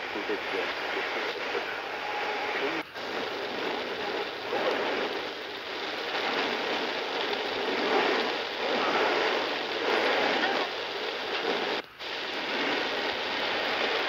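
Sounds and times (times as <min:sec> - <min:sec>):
radio static hissing: 0:00.0 - 0:14.0.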